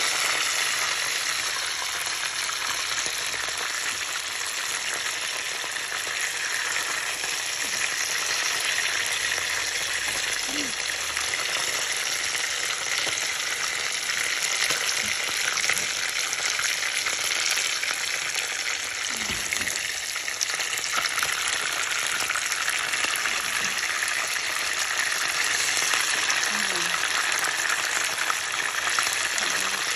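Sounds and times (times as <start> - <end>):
fish frying in sizzling oil: 0.0 - 29.9.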